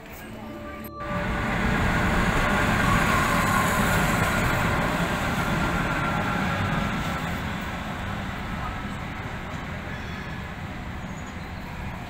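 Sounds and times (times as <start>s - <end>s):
electric tram rolling rumble: 0.0s - 12.0s
faint high whine: 0.2s - 12.0s.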